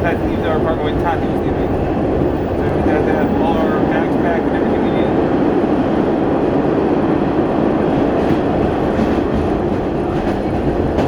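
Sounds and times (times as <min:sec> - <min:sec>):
subway wheels on rails: 0:00.0 - 0:11.0.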